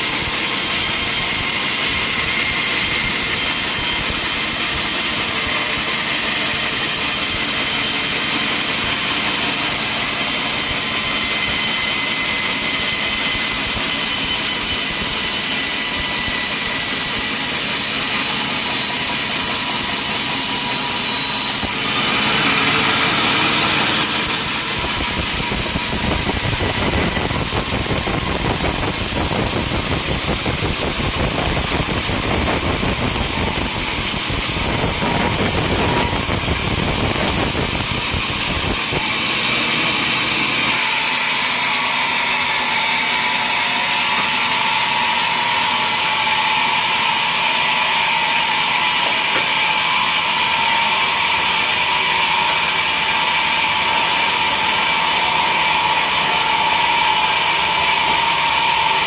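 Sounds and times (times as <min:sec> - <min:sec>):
saw whining cutting timber: 0:00.0 - 0:59.0.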